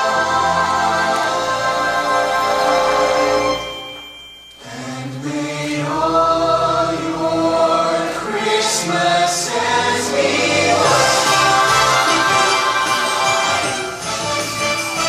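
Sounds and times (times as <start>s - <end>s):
choir-like voices: 0.0s - 3.8s, 4.6s - 15.0s.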